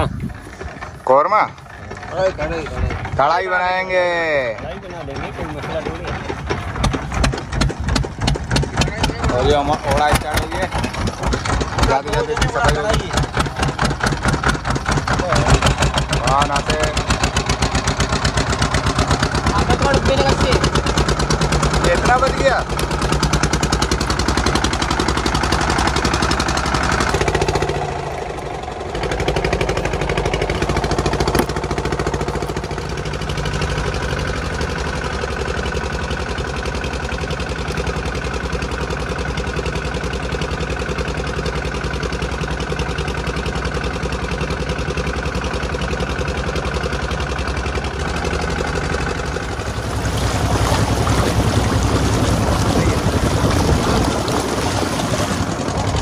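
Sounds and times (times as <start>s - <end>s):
boat engine running: 0.0s - 56.0s
water splashing along hull: 0.0s - 56.0s.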